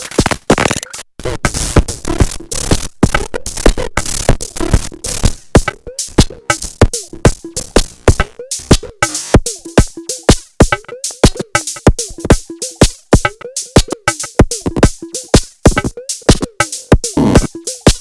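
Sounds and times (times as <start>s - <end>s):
electronic drum machine rhythm: 0.0s - 18.0s.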